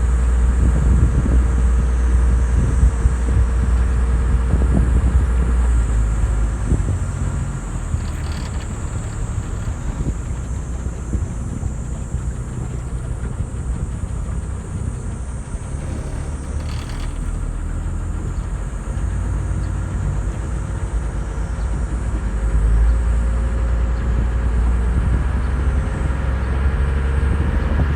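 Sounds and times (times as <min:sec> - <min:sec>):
boat engine rumble: 0:00.0 - 0:27.9.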